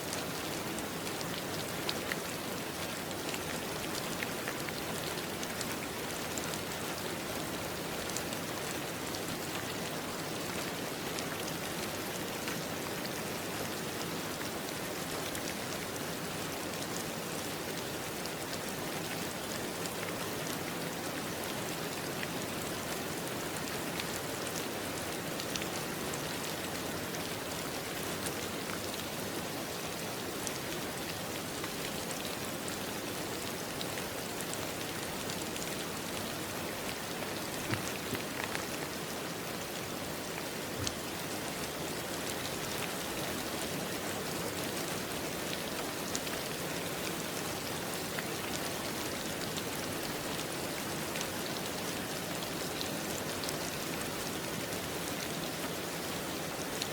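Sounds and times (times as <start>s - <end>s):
rain falling on a surface: 0.0s - 56.9s.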